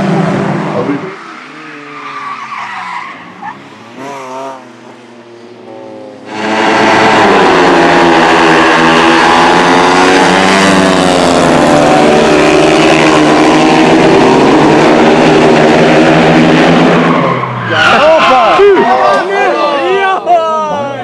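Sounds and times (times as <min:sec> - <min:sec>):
race car engine at high revs: 0:00.0 - 0:18.9.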